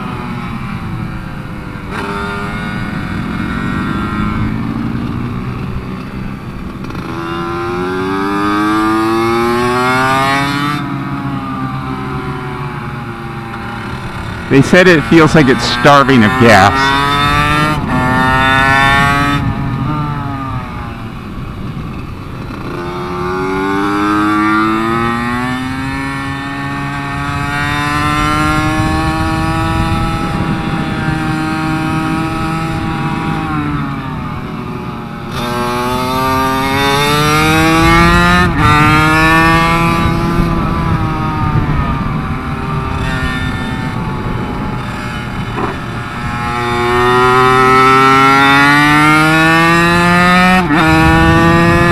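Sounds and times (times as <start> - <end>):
minibike engine revving: 0.0 - 51.9.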